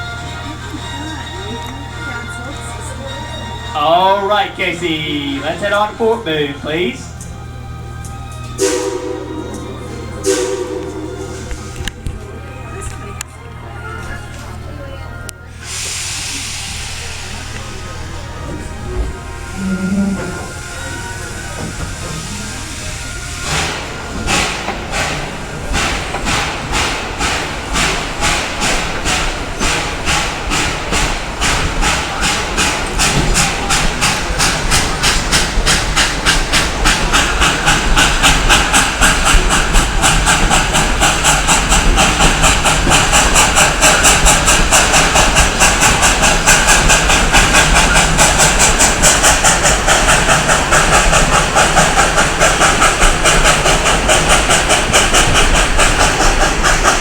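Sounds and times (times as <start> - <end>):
steam locomotive exhaust chuffs: 0.0 - 57.0.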